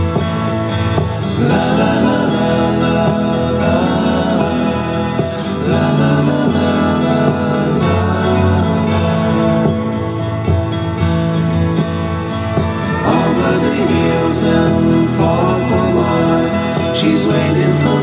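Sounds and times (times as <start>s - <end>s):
background guitar music: 0.0s - 18.0s.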